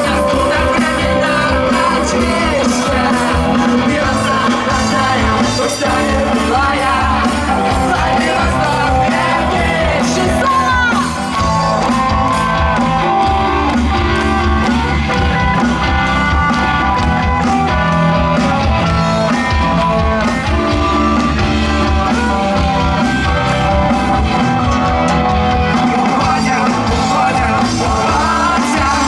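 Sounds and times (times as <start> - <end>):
bass guitar: 0.0 - 29.0
drum kit beat: 0.0 - 29.0
lead guitar melody: 0.0 - 29.0.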